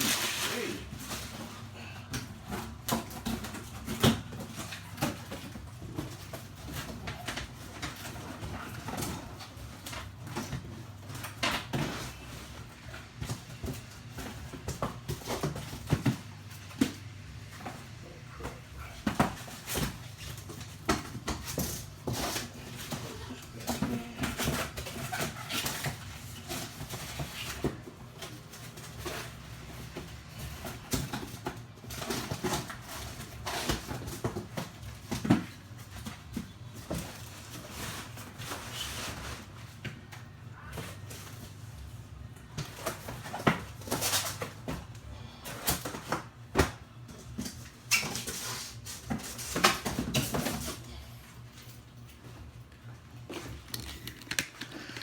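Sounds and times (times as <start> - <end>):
packaging rustling and scraping: 0.0 - 55.0.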